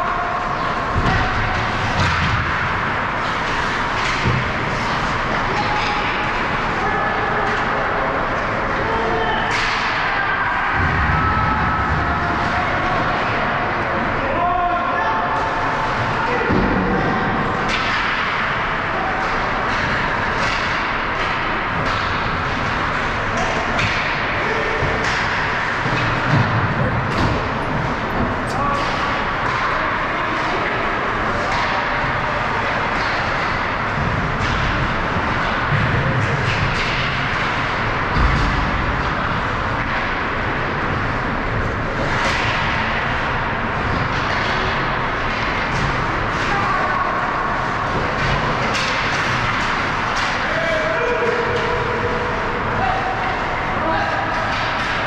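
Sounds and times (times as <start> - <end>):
hockey sticks and puck knocking: 0.4 - 8.8, 15.7 - 55.0.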